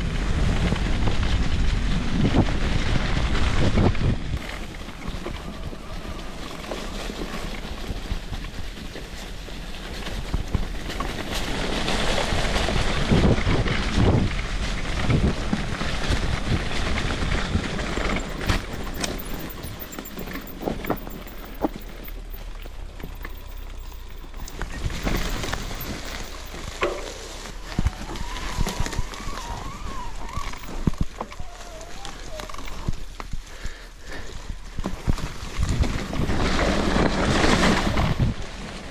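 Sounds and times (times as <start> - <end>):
bicycle tyre noise: 0.0 - 38.9
wind rush: 0.0 - 38.9
bike knocks and rattles: 0.3 - 31.6.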